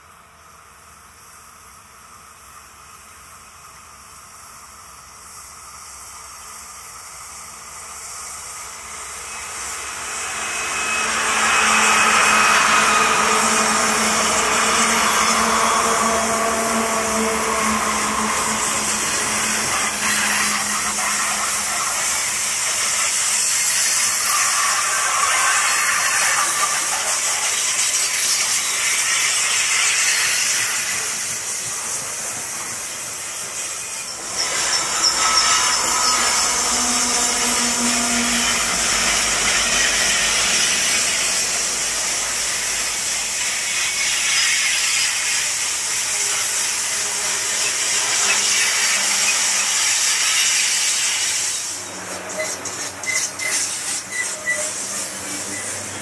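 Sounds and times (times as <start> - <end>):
locomotive engine drone: 0.0 - 56.0
train wheels hissing on rail: 0.0 - 56.0.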